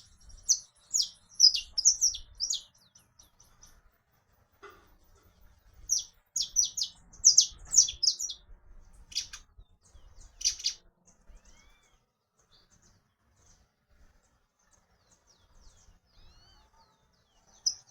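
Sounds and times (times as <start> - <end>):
finch singing: 0.0 - 3.9, 5.0 - 17.9.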